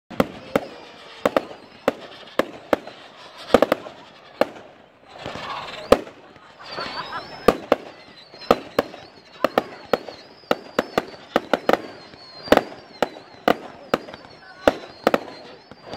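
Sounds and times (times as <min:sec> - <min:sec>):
faint high whistle: 0:00.1 - 0:15.9
fireworks bangs: 0:00.1 - 0:15.9
fireworks hissing crackle: 0:00.1 - 0:15.9.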